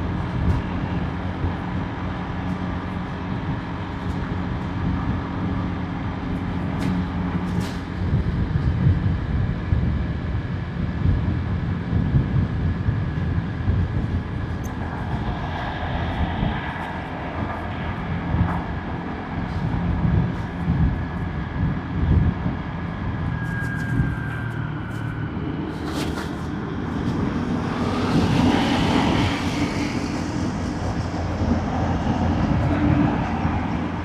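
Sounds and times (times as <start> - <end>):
passing traffic: 0.0 - 34.0
wind buffeting microphone: 0.0 - 34.0.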